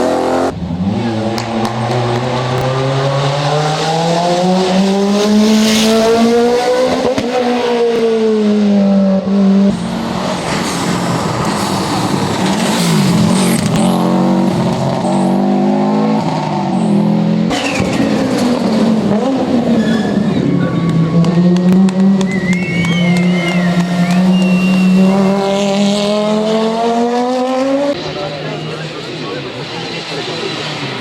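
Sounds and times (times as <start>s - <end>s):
engine revving through gears: 0.0s - 28.0s
rally car engine accelerating: 0.0s - 31.0s.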